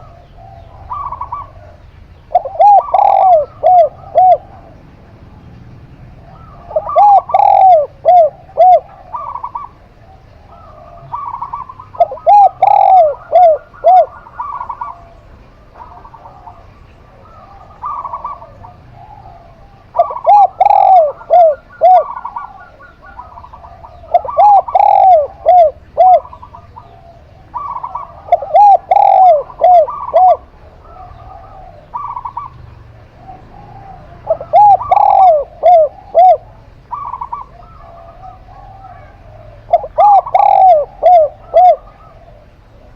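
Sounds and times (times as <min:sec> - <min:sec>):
bird trill: 0:00.0 - 0:42.9
doves cooing: 0:00.0 - 0:42.9.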